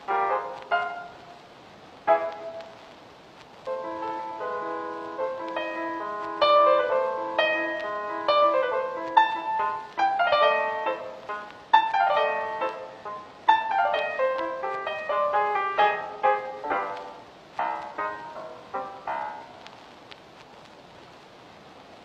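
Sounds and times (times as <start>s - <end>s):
film score piano music: 0.0s - 2.9s, 3.6s - 19.8s.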